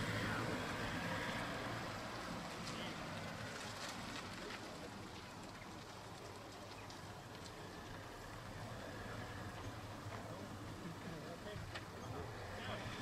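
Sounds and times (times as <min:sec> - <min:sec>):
car engine faint hum: 0:00.0 - 0:13.0.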